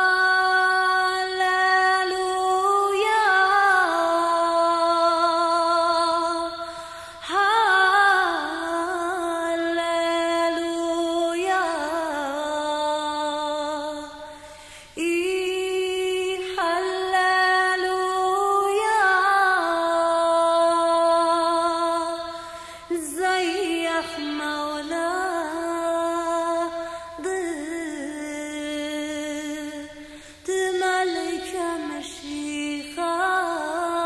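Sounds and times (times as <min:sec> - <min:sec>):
woman singing a hymn: 0:00.0 - 0:34.0.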